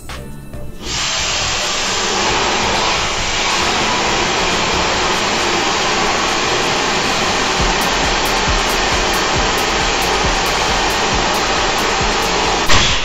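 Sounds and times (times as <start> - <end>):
background music with steady beat: 0.0 - 1.1, 3.4 - 12.9
compressed air rushing: 0.8 - 13.0.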